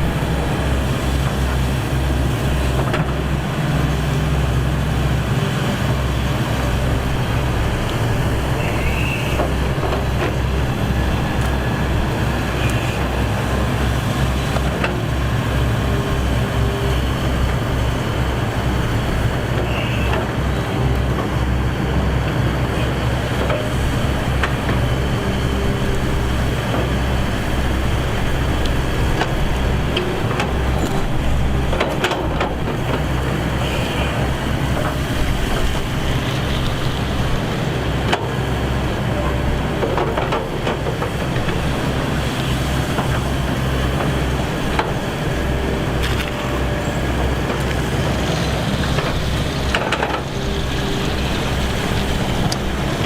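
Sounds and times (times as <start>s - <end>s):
excavator diesel engine drone: 0.0s - 53.0s.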